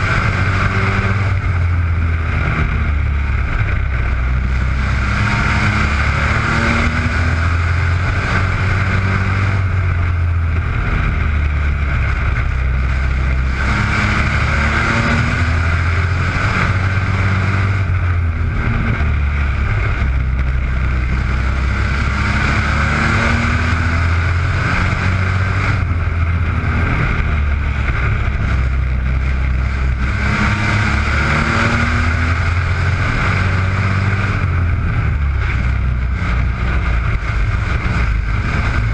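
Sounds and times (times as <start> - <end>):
racing truck engines: 0.0 - 38.9.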